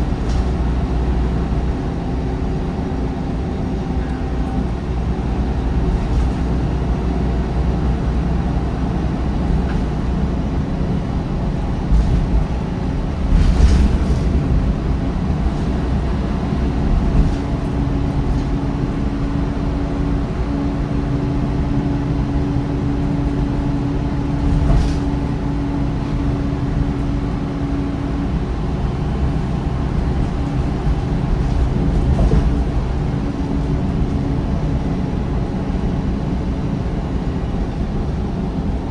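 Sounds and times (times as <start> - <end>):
bus diesel engine drone: 0.0 - 38.9.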